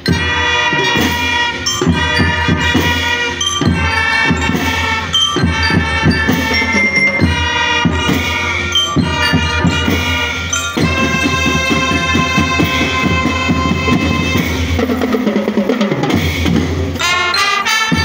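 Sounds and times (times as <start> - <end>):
snare and bass drums beat: 0.0 - 18.0
brass horns sustained chords: 0.1 - 14.8, 17.0 - 18.0.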